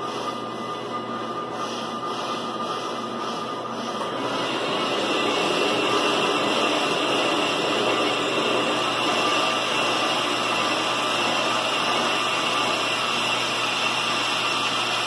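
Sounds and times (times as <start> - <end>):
brake lathe whirring: 0.0 - 15.0.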